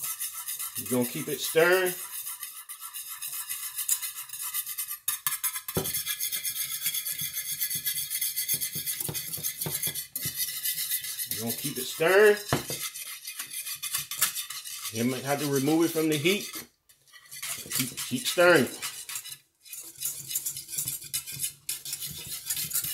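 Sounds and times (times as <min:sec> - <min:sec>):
whisk scraping metal saucepan: 0:00.0 - 0:22.9.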